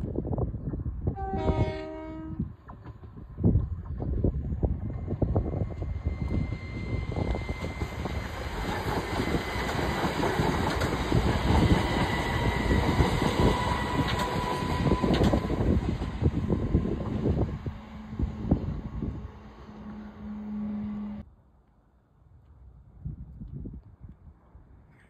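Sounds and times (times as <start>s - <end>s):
train wheels rumbling on rail: 0.0s - 21.2s.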